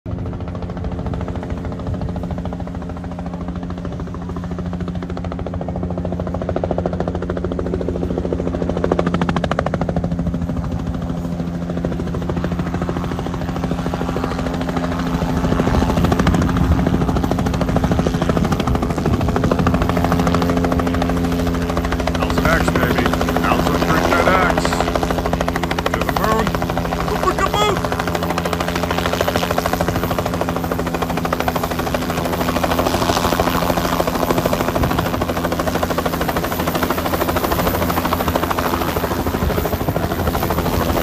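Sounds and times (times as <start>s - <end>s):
helicopter rotor chopping: 0.1s - 41.0s.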